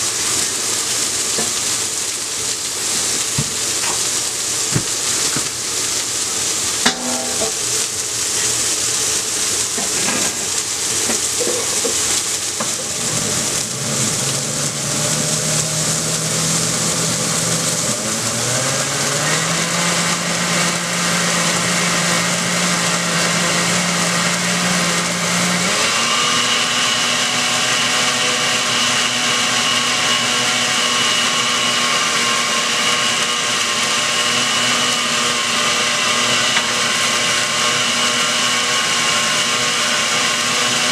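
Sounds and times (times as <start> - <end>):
blender motor whirring: 0.0 - 40.9.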